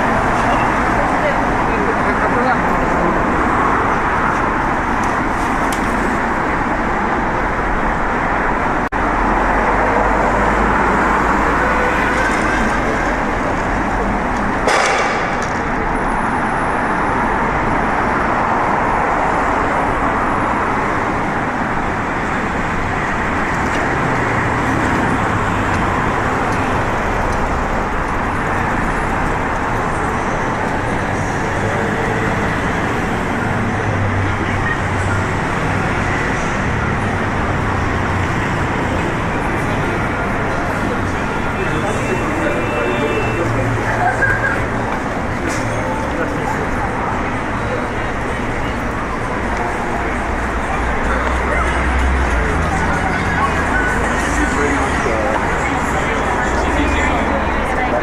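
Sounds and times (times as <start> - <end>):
city street traffic: 0.0 - 58.0.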